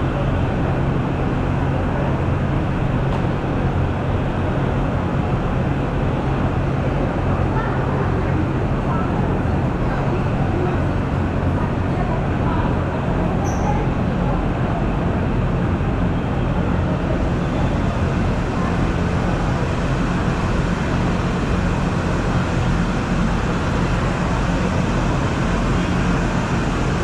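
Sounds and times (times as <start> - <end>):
crowd rumbling in a hall: 0.0 - 27.0.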